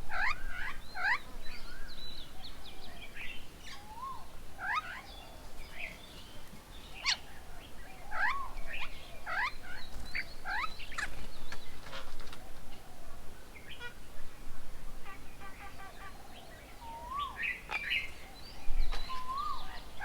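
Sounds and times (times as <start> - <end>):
birds calling and chattering: 0.0 - 20.0.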